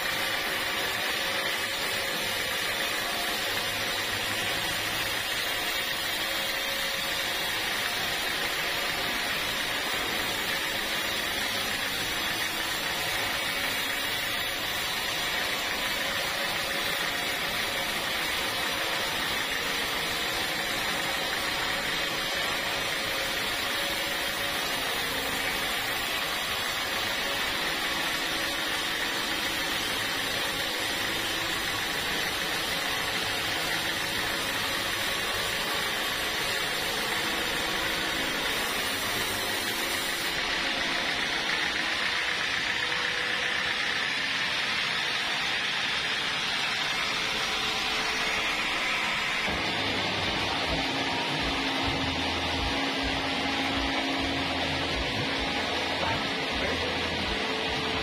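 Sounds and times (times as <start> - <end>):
sawmill machine noise: 0.0 - 58.0.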